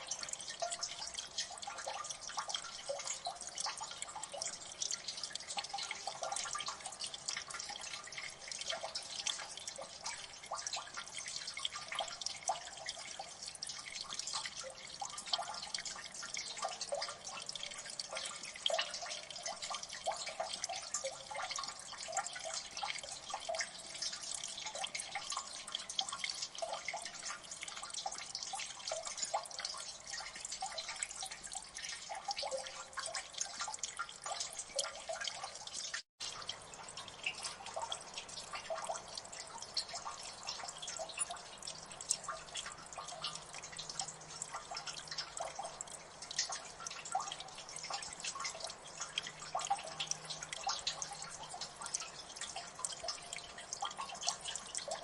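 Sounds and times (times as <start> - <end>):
water dripping: 0.0 - 55.0.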